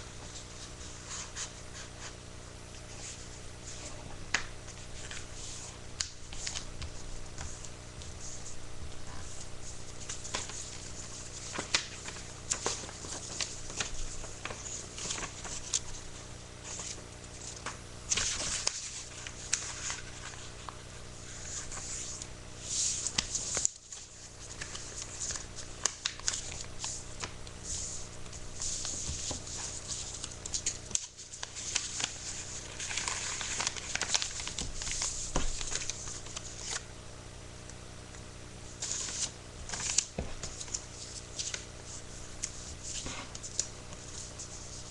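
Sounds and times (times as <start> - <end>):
paper rustling and crinkling: 2.9 - 36.8, 38.7 - 44.9.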